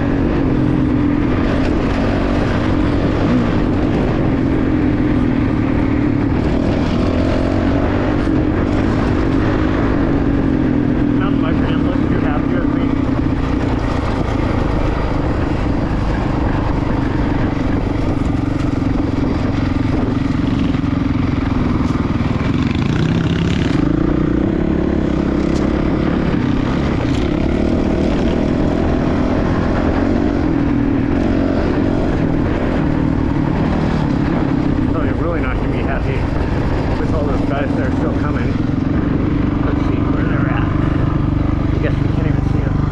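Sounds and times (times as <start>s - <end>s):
dirt bike engine running: 0.0s - 42.9s.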